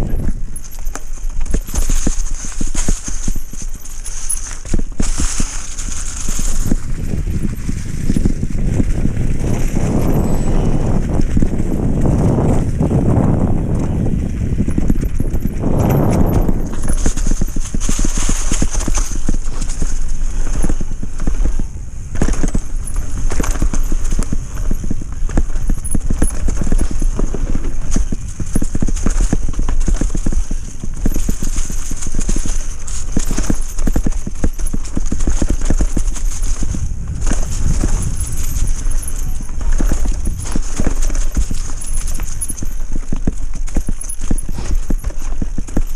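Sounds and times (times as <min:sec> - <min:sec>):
mountain bike rattling: 0:00.0 - 0:45.9
wind rumble on microphone: 0:00.0 - 0:45.9.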